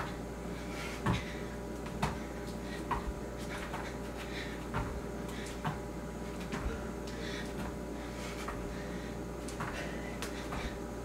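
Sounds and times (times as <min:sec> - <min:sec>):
feet thumping on yoga mat: 0:00.0 - 0:08.8, 0:09.4 - 0:10.9.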